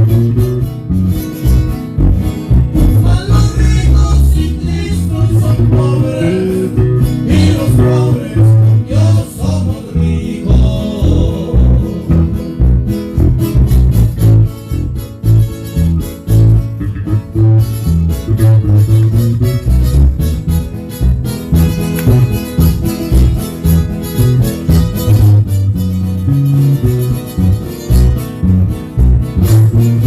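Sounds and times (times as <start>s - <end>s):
bass line: 0.0s - 30.0s
plucked guitars: 0.0s - 30.0s.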